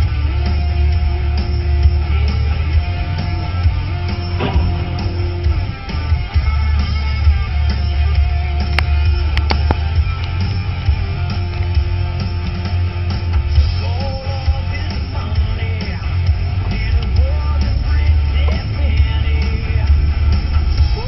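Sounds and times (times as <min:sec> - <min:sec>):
loud rock music with singing: 0:00.0 - 0:21.0.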